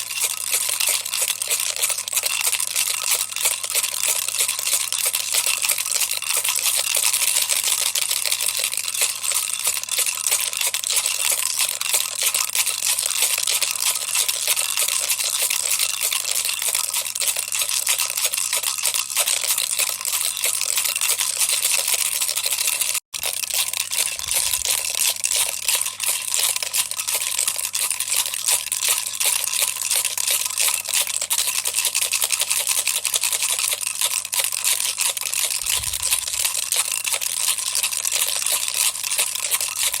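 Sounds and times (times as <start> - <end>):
baby rattle shaken: 0.0 - 40.0.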